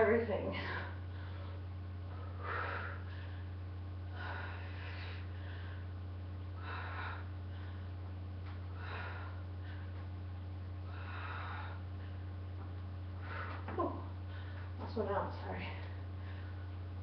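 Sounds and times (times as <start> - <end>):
low electrical hum: 0.0 - 17.0
woman breathing heavily: 0.4 - 17.0.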